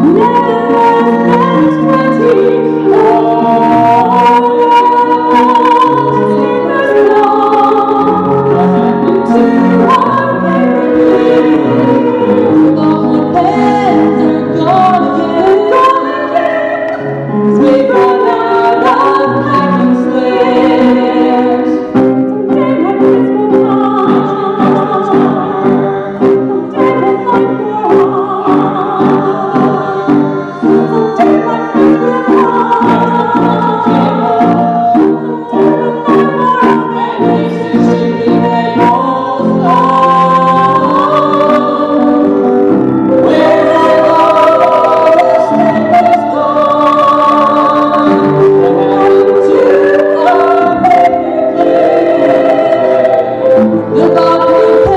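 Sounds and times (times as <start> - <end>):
group singing in harmony: 0.0 - 54.9
piano: 0.0 - 54.9.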